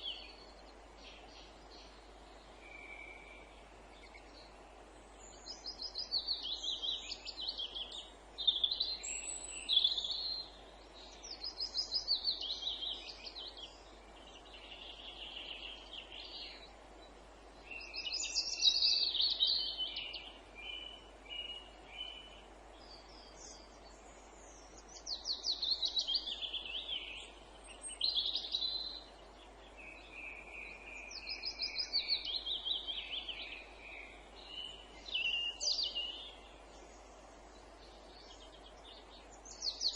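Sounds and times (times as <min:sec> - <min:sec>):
faint background hiss: 0:00.0 - 0:39.9
songbirds singing trilled phrases: 0:00.0 - 0:39.9.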